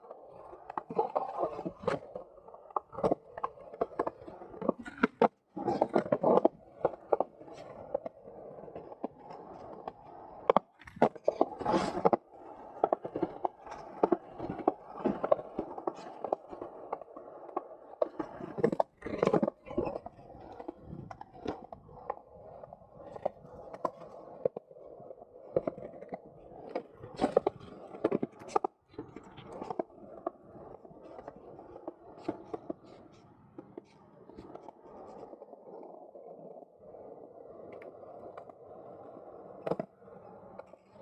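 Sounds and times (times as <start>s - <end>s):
skateboard wheels rolling: 0.0s - 41.0s
skateboards clacking and scraping: 0.0s - 41.0s.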